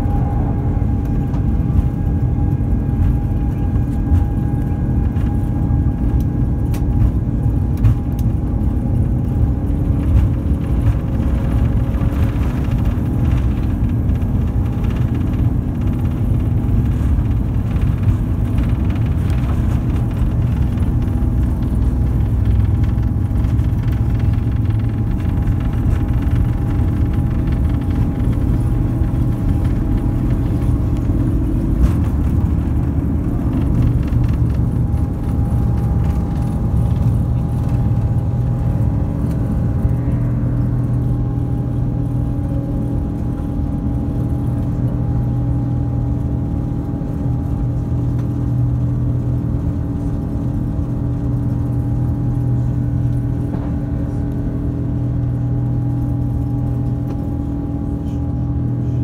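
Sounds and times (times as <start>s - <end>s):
jet engine drone in cabin: 0.0s - 59.0s
runway rumble from wheels: 0.0s - 59.0s.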